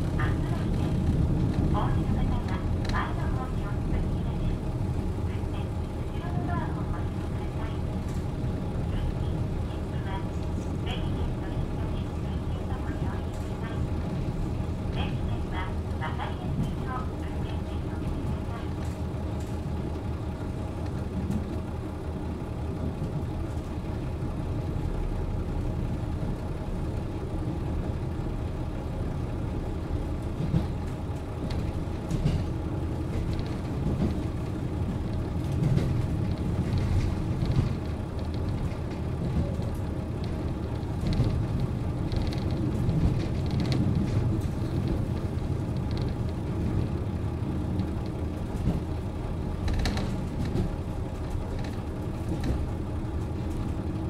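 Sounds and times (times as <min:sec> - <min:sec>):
diesel railcar engine idling: 0:00.0 - 0:54.0.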